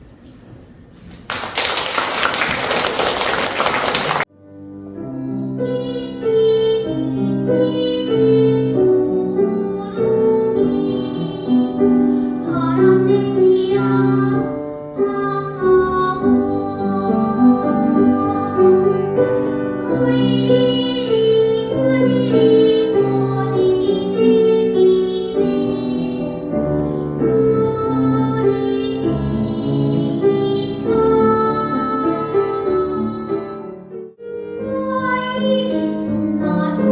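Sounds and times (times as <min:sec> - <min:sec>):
piano accompaniment: 0:02.4 - 0:36.9
child singing: 0:05.0 - 0:33.8, 0:34.5 - 0:36.9.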